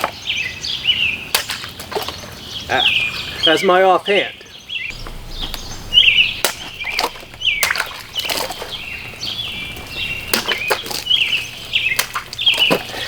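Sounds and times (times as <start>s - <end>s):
birds chirping: 2.1s - 13.0s.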